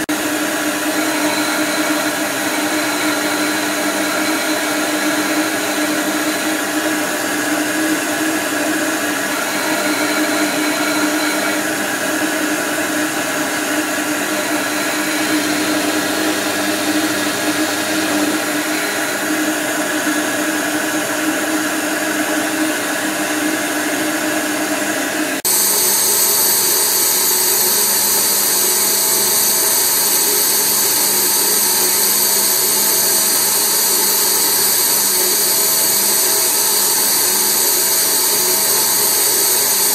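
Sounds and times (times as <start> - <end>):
disc sander grinding: 0.0 - 39.9
polishing motor whirring: 0.0 - 39.9.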